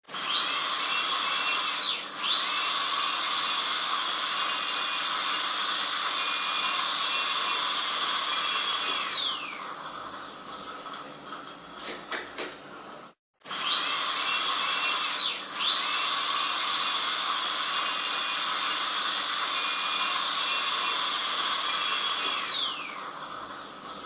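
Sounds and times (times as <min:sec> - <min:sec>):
dental drill whining: 0:00.1 - 0:10.8, 0:13.5 - 0:24.0.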